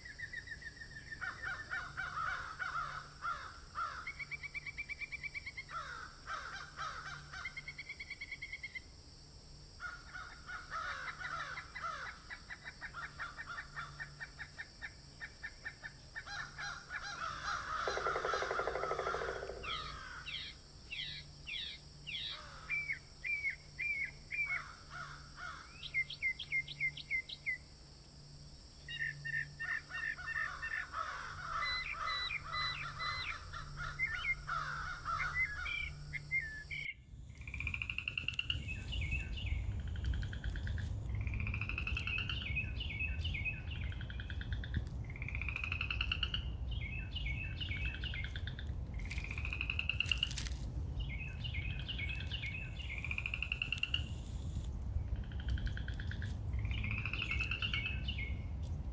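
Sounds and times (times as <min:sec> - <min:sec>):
wild birds chirping and trilling: 0:00.0 - 0:08.9, 0:09.8 - 0:27.6, 0:28.8 - 0:58.9.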